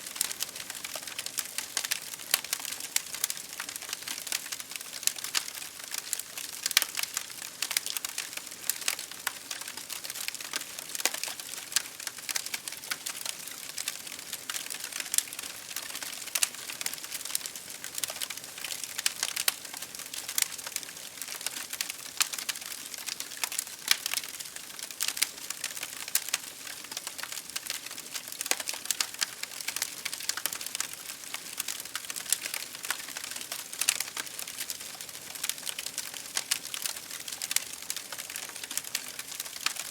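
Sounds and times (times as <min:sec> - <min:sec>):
rain pattering on window: 0:00.0 - 0:39.9
wood fire crackling: 0:00.0 - 0:39.9.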